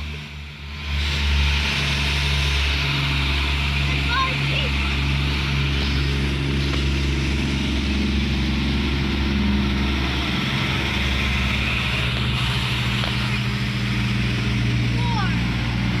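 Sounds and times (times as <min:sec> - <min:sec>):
train diesel engines running: 0:00.0 - 0:16.0.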